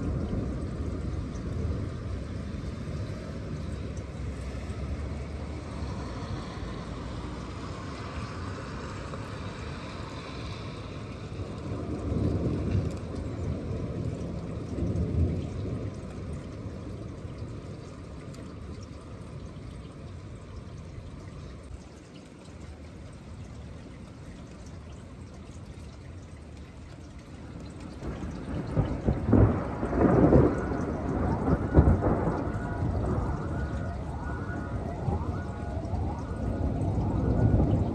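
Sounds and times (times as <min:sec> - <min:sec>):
thunder rumbling: 0:00.0 - 0:20.4, 0:27.4 - 0:37.9
steady rain: 0:00.0 - 0:37.9.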